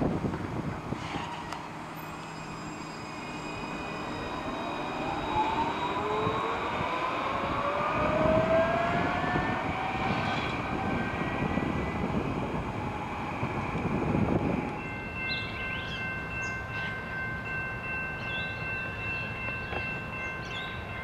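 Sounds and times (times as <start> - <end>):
tram traction drive whining: 0.3 - 17.6.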